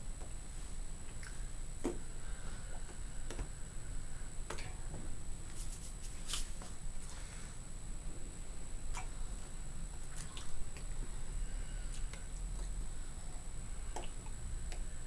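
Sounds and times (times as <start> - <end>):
electrical hum: 0.0 - 15.0
faint high whine: 0.0 - 15.0.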